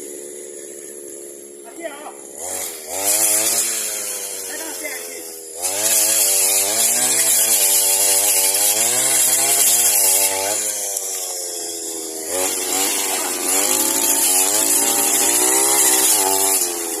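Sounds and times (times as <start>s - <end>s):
brush cutter engine revving: 0.0s - 17.0s.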